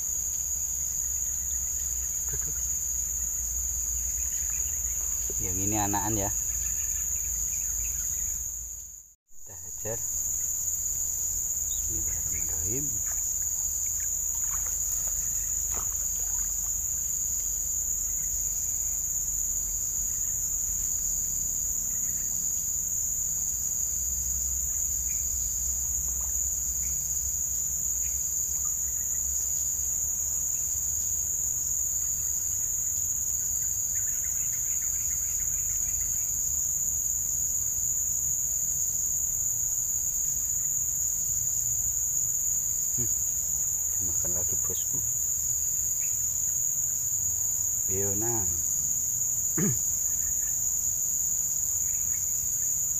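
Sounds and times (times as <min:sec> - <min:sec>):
faint repeating insect call: 0:00.0 - 0:52.9
high-pitched insect drone: 0:00.0 - 0:52.9.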